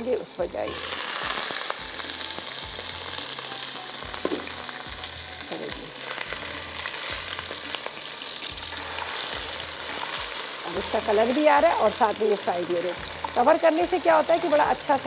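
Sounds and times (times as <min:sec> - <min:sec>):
potatoes frying in oil: 0:00.0 - 0:15.0.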